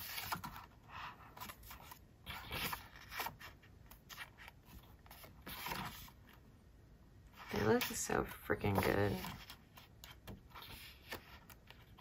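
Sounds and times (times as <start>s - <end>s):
book pages turning: 0.0s - 6.4s, 7.3s - 12.0s.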